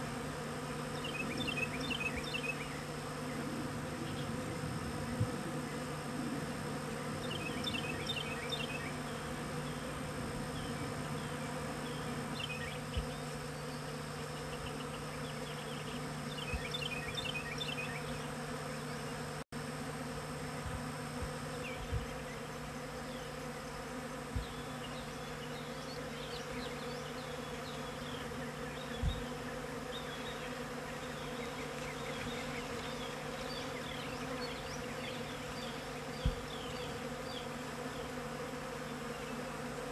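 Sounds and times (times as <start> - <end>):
honey bees buzzing: 0.0 - 39.9.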